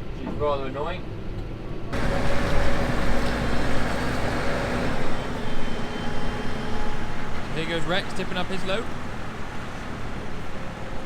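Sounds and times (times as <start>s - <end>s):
tractor engine under load: 2.0s - 11.0s.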